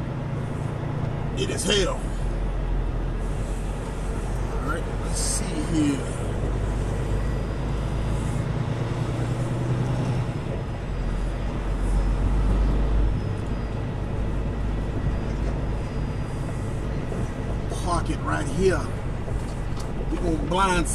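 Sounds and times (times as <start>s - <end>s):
truck diesel engine rumbling: 0.0s - 20.9s.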